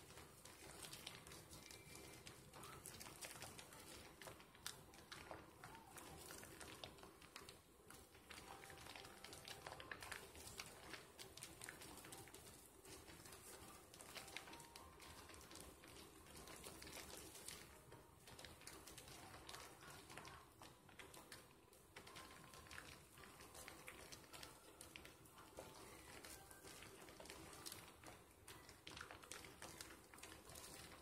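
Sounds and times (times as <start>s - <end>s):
soap lather squishing between hands: 0.0s - 31.0s.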